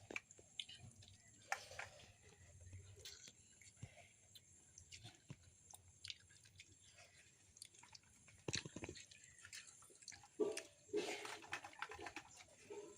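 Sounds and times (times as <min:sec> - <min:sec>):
soft chewing: 0:00.0 - 0:12.9.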